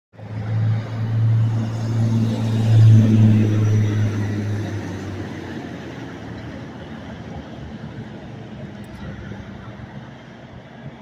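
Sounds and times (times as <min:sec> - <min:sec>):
vehicle engine hum: 0:00.2 - 0:11.0.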